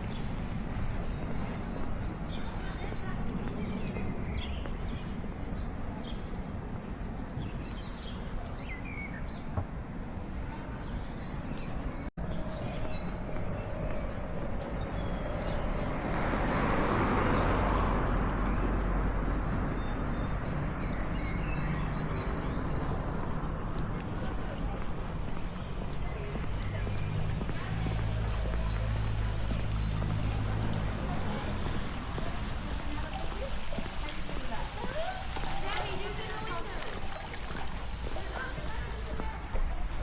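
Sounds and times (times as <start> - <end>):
small birds chirping: 0.0 - 39.5
city background hum: 0.0 - 40.0.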